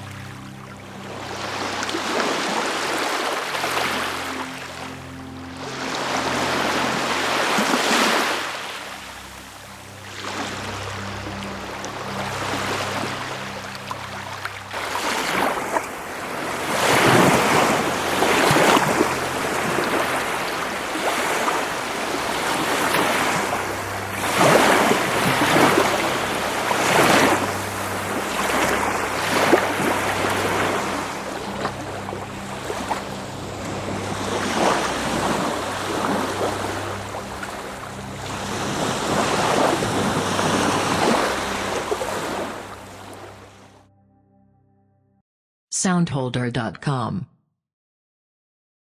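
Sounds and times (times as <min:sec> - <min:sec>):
waves washing onto shore: 0:00.0 - 0:43.5.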